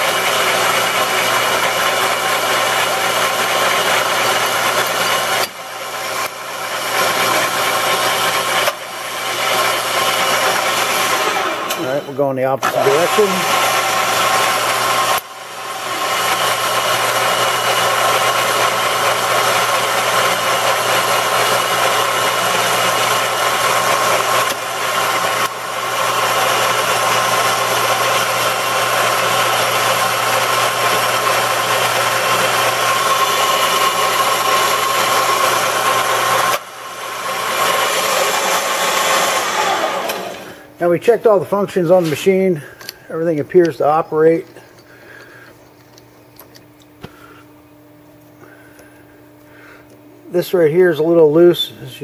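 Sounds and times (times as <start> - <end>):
lathe motor whine: 0.0 - 52.0.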